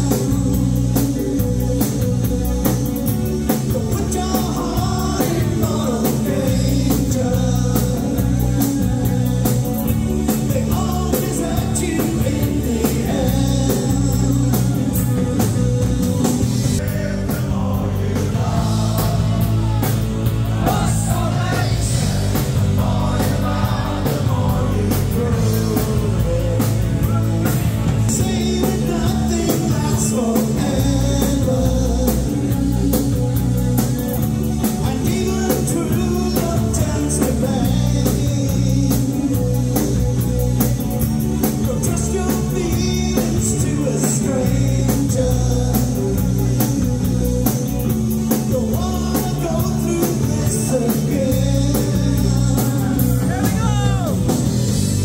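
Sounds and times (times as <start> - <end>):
man singing lead vocal: 0.0 - 40.1, 41.4 - 54.5
rock band playing: 0.0 - 55.0.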